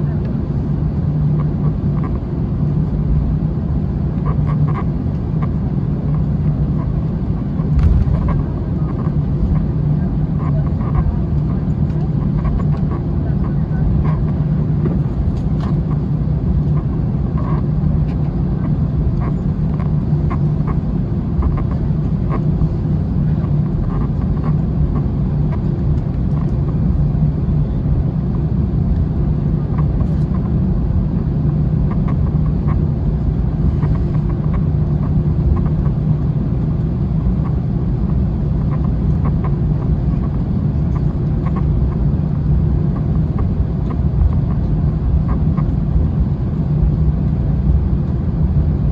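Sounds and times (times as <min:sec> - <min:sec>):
airplane cabin jet engine drone: 0:00.0 - 0:48.9.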